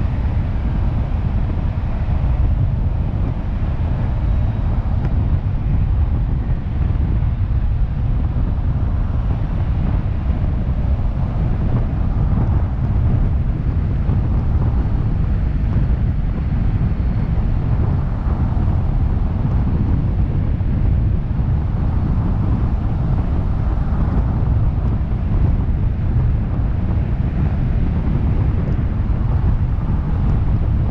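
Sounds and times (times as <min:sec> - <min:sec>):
tyre and road noise: 0:00.0 - 0:30.9
wind buffeting a microphone: 0:00.0 - 0:30.9.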